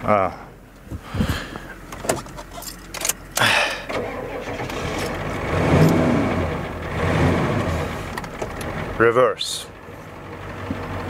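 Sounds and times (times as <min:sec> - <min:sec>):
van engine revving: 0:00.0 - 0:11.0.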